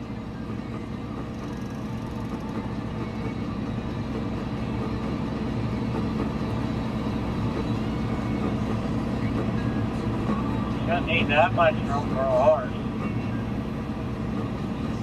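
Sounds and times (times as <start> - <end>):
farm vehicle engine droning: 0.0 - 15.0.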